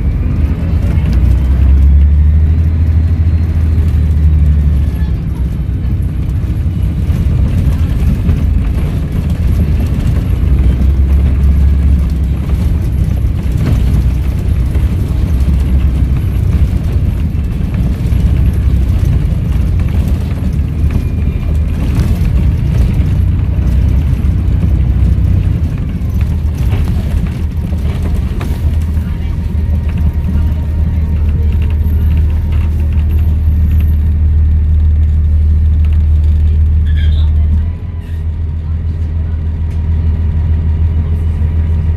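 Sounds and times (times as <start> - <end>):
bus engine rumbling: 0.0 - 41.9.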